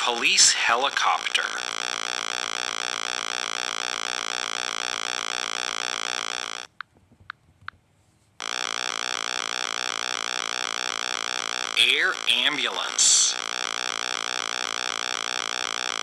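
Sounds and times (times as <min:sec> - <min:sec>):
electronic helicopter rotor effect: 0:00.0 - 0:06.7, 0:08.4 - 0:16.0.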